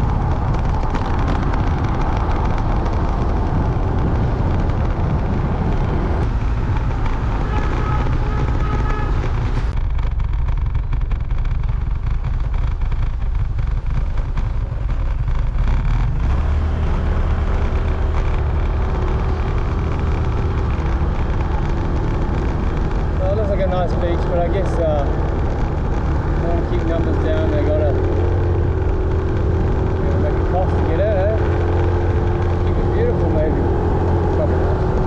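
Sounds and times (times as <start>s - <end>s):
motorcycle engine running: 0.0s - 35.0s
wind rush over microphone: 0.0s - 35.0s.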